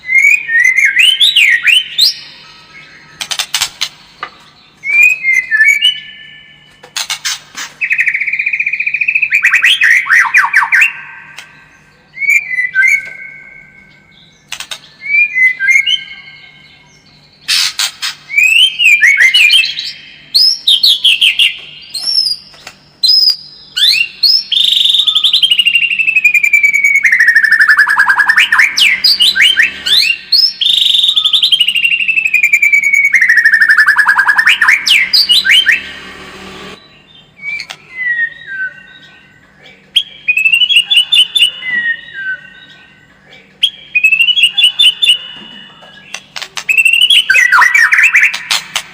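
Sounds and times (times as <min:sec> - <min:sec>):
songbird singing varied song: 0:00.0 - 0:06.9, 0:07.8 - 0:35.9, 0:36.8 - 0:48.8.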